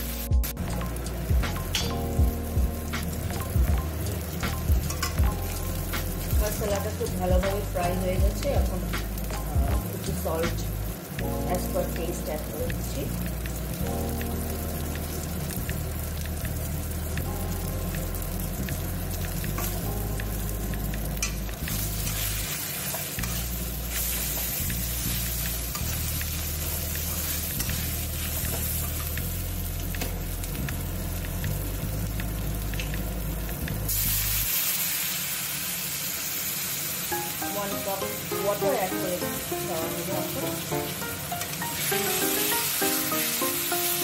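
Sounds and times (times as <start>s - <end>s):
spices sizzling in a pan: 0.0s - 44.0s.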